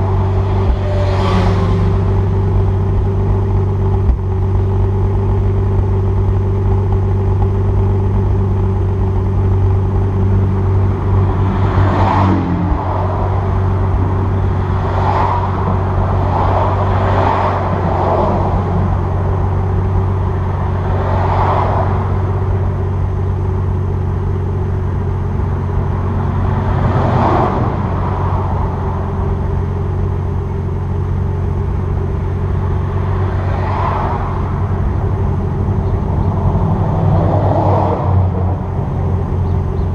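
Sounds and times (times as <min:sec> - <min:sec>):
car exhaust idling: 0:00.0 - 0:39.9.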